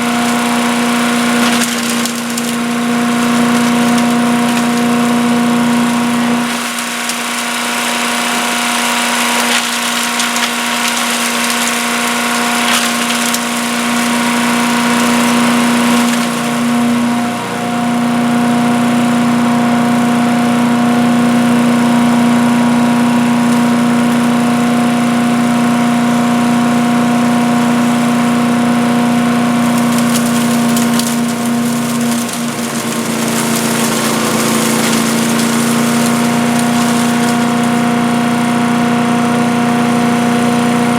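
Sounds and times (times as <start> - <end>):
wood chipper engine running: 0.0 - 40.9.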